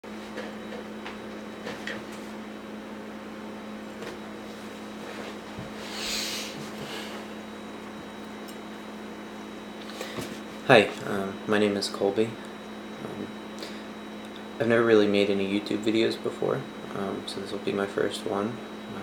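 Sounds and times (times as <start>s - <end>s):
low hum and hiss: 0.0s - 19.0s.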